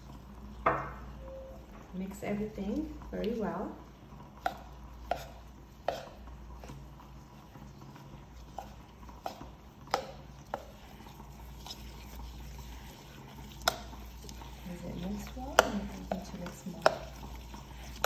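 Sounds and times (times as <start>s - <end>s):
spoon stirring thick mixture: 2.0s - 18.0s.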